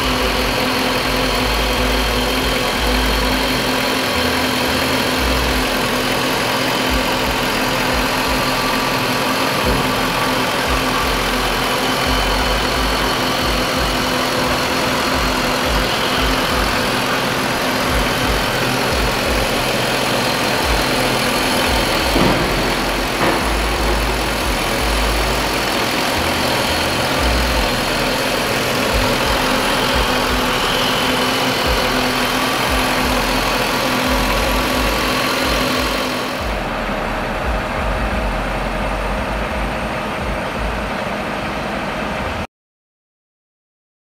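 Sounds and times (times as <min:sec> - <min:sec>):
car engine idling: 0:00.0 - 0:42.5.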